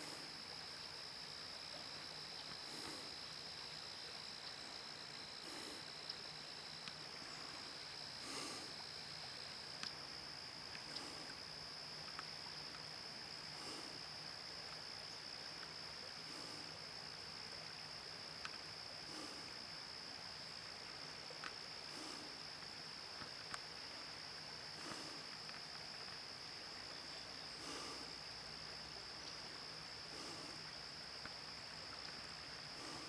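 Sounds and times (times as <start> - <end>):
faint hiss: 0.0 - 33.0.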